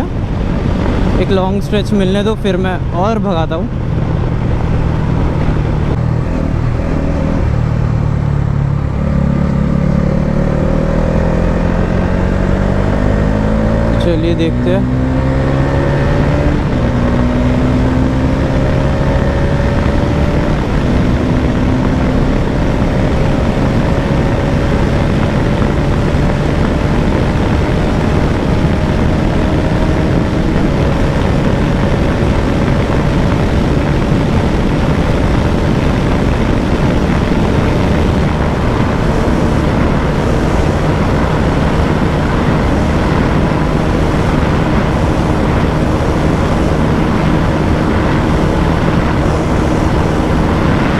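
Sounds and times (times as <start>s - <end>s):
wind rushing: 0.0s - 50.9s
motorcycle engine pulling hard: 2.2s - 50.9s.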